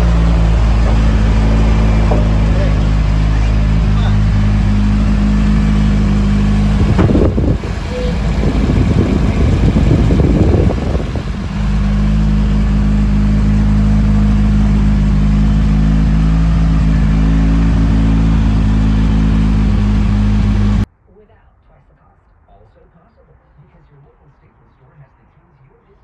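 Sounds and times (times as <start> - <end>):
car engine revving and droning: 0.0 - 20.9.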